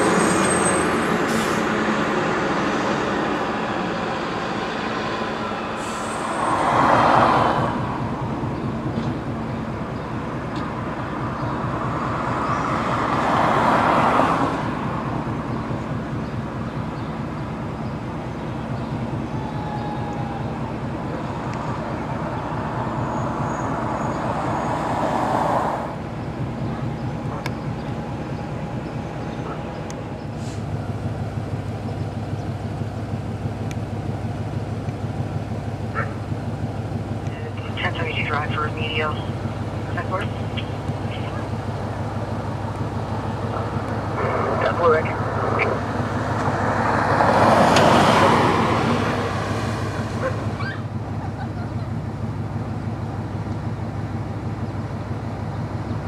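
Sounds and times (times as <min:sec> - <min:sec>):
diesel engine idling: 0:00.0 - 0:56.0
street traffic passing: 0:00.0 - 0:56.0.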